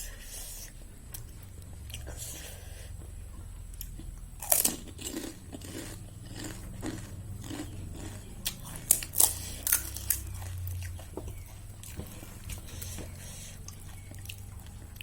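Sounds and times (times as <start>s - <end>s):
crunching and chewing crisp shells: 0.0s - 15.0s.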